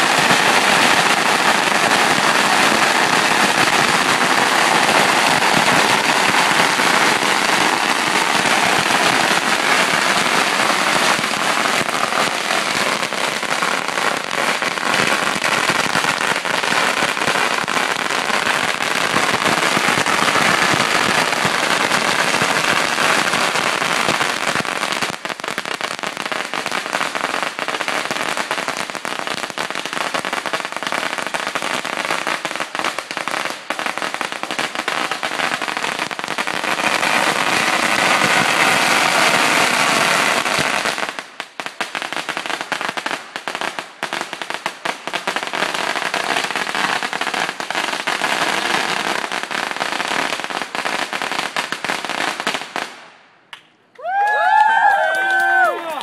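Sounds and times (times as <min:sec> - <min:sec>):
firework crackling: 0:00.0 - 0:53.2, 0:54.0 - 0:56.0.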